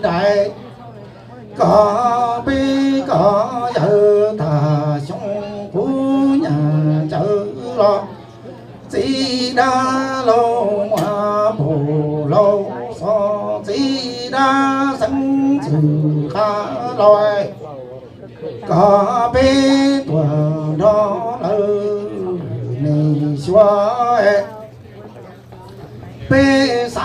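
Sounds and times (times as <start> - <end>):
man singing: 0.0 - 0.7, 1.5 - 8.2, 8.9 - 17.7, 18.5 - 24.6, 26.2 - 27.0.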